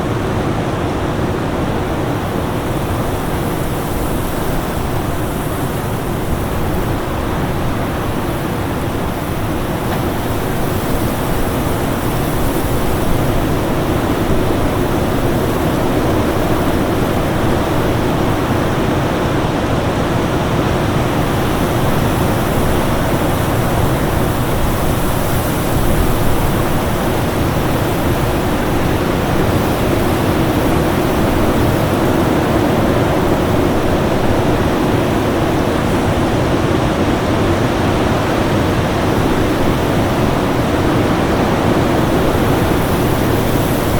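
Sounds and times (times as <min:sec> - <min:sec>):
winter storm rushing noise: 0:00.0 - 0:43.9.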